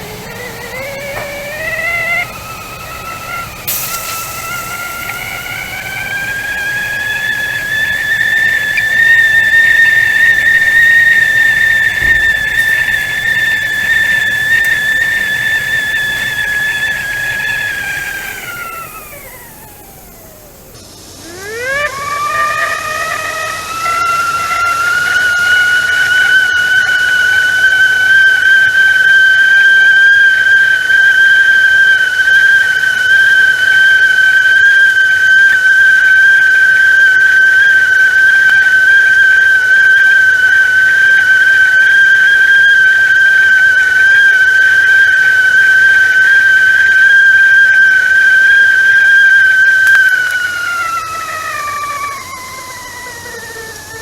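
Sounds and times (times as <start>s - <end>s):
teapot whistling: 0.0s - 54.0s.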